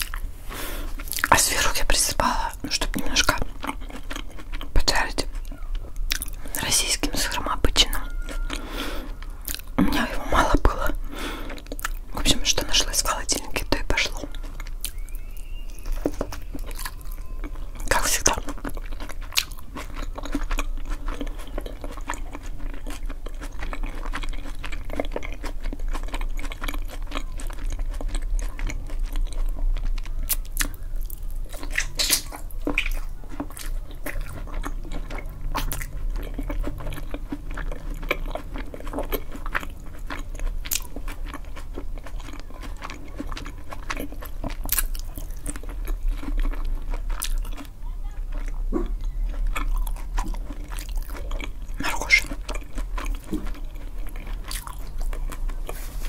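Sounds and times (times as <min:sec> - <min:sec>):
chewing and biting: 0:00.0 - 0:56.0.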